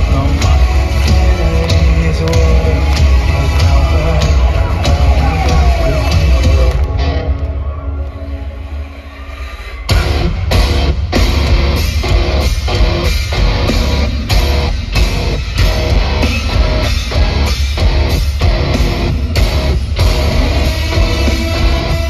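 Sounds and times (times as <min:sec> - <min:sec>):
metal band playing live: 0:00.0 - 0:22.0.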